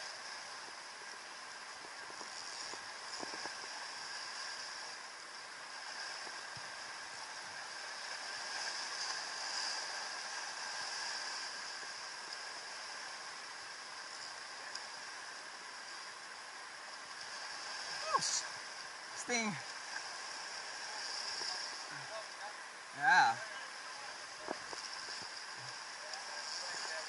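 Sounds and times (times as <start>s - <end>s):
ocean surf over rocks: 0.0s - 27.0s.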